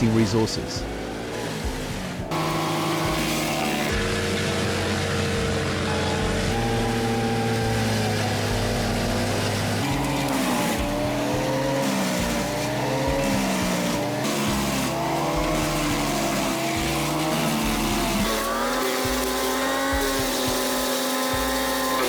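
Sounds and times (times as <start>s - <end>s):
wood chipper engine under load: 0.0s - 22.0s.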